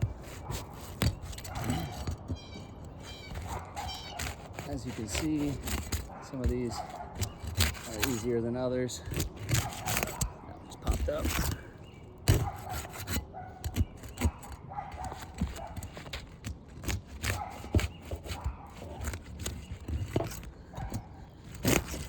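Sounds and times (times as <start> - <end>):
roof shingles being pried up: 0.0 - 22.0.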